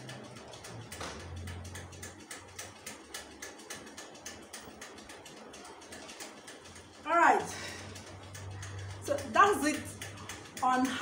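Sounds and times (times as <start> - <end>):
rapid regular ticking: 0.0 - 11.0.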